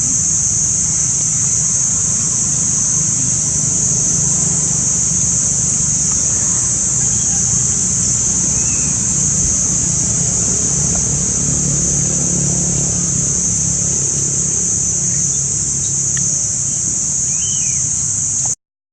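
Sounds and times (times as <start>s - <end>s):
low engine-like rumble: 0.0s - 17.8s
cicadas buzzing: 0.0s - 18.6s.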